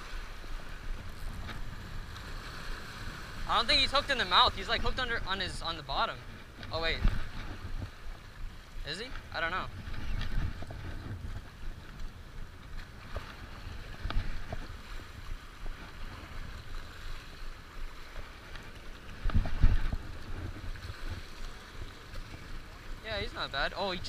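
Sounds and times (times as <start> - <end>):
small waves washing against rocks: 0.0 - 24.0
wind buffeting microphone: 0.0 - 24.0.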